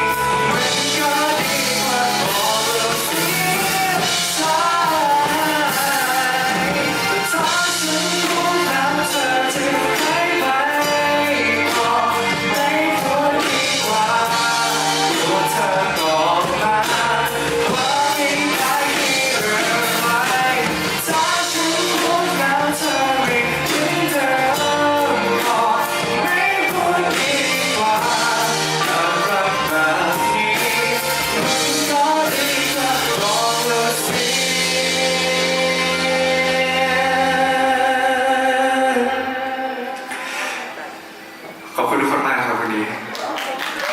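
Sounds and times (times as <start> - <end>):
person singing: 0.0 - 40.8
drums: 0.0 - 41.8
live pop-rock band: 0.0 - 43.9.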